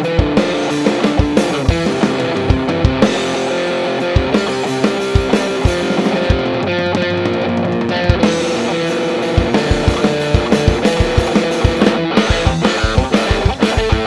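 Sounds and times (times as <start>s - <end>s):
distorted electric guitar chords: 0.0s - 14.0s
drum kit: 0.0s - 14.0s.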